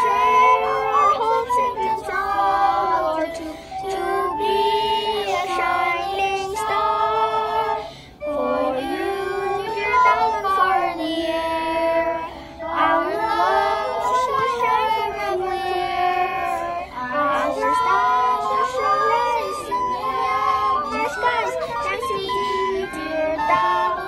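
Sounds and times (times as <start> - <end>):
children singing: 0.0 - 24.0.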